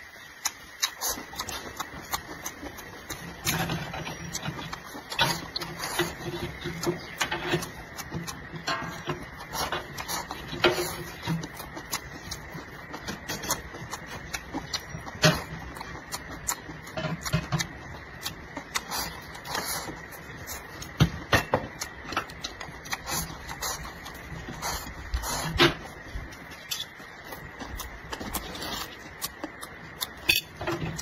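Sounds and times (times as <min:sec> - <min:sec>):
chewing and lip-smacking: 0:00.2 - 0:31.0.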